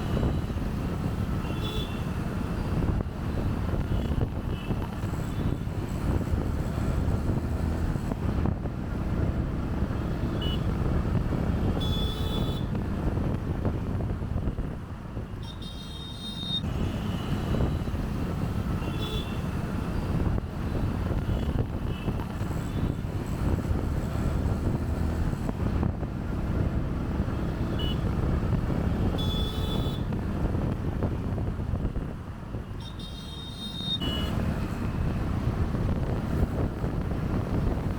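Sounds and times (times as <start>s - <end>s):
motorcycle engine and road rumble: 0.0s - 37.9s.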